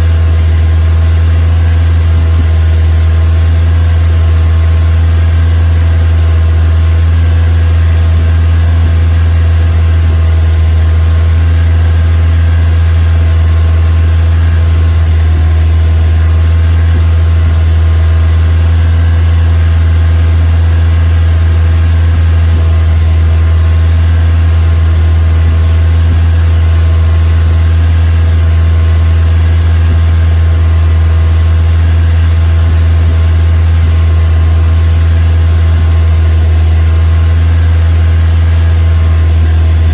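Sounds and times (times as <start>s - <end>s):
engine fast idle with misfire: 0.0s - 39.9s.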